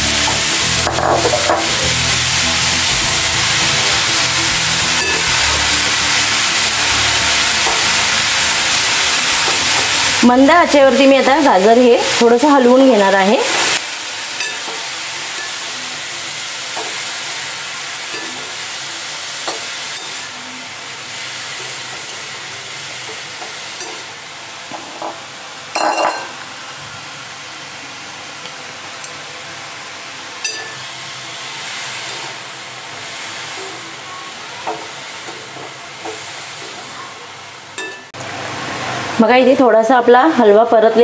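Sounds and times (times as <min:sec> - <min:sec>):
carrots sizzling in a pan: 0:00.0 - 0:41.0.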